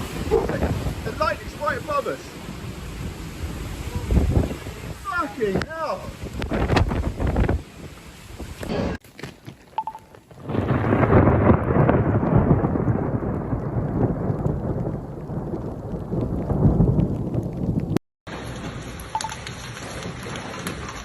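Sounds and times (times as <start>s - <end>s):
thunderclap rumbling: 0.0s - 9.0s, 10.2s - 21.0s.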